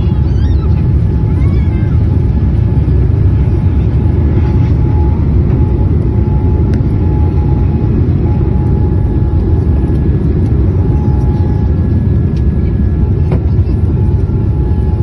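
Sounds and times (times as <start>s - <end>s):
airliner takeoff rumble: 0.0s - 15.0s
faint steady whine: 0.0s - 15.0s.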